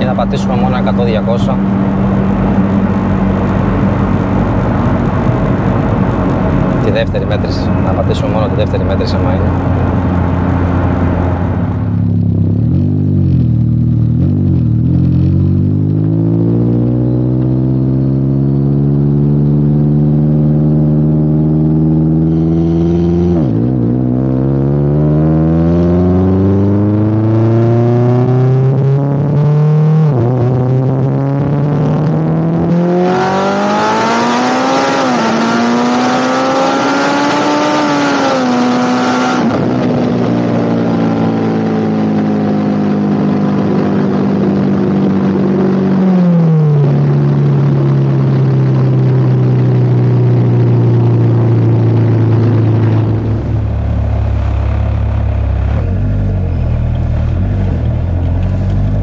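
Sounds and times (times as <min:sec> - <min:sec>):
car engine at full throttle: 0:00.0 - 0:59.0.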